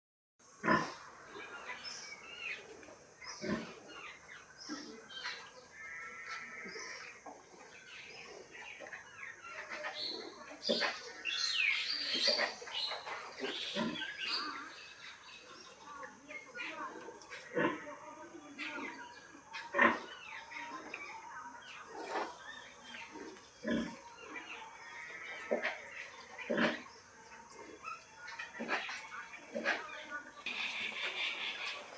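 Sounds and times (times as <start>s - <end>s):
sow grunting: 0.6s - 1.7s, 3.3s - 7.4s, 9.6s - 15.7s, 16.8s - 21.0s, 21.6s - 31.9s
high chirping calls: 0.9s - 31.9s.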